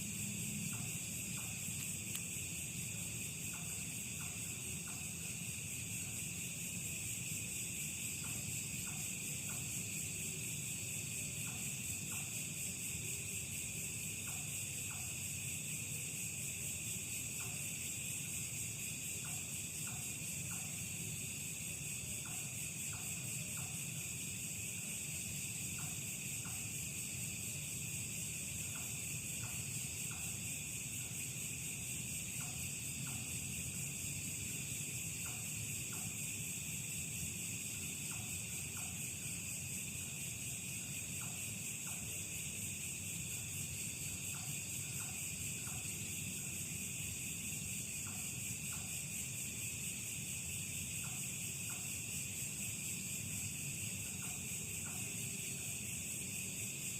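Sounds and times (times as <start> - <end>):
crickets and insects chorus: 0.0 - 56.9.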